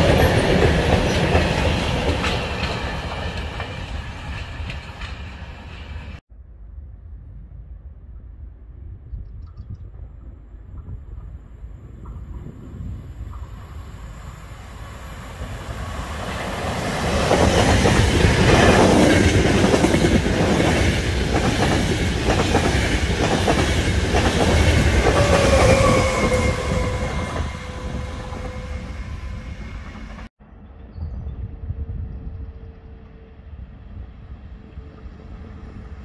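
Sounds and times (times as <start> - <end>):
train passing: 0.0 - 6.2, 10.2 - 30.7, 32.5 - 36.0.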